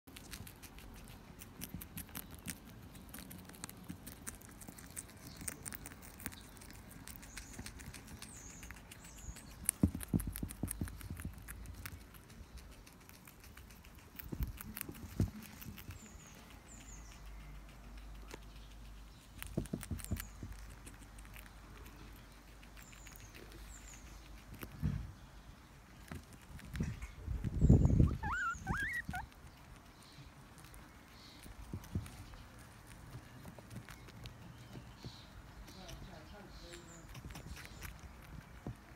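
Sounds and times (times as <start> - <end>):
guinea pigs chewing celery: 0.0 - 38.9.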